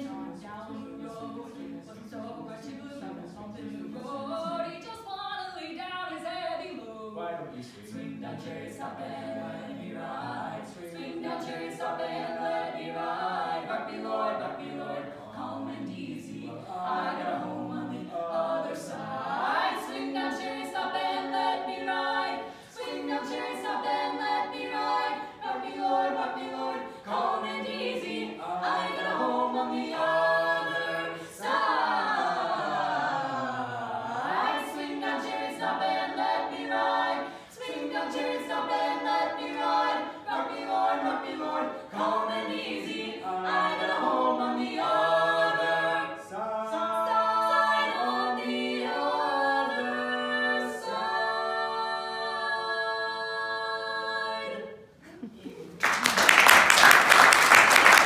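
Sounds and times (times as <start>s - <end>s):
quartet singing in harmony: 0.0s - 5.1s, 5.7s - 55.4s.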